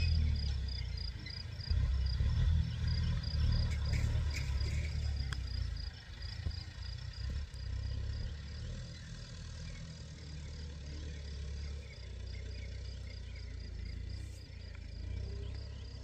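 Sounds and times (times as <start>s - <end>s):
cricket chirping: 0.0s - 16.0s
tractor diesel engine rumbling: 0.0s - 16.0s.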